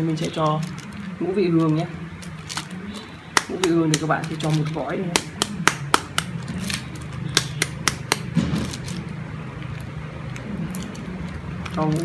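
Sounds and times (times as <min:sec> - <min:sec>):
foil sachet crinkling: 0:00.0 - 0:12.0.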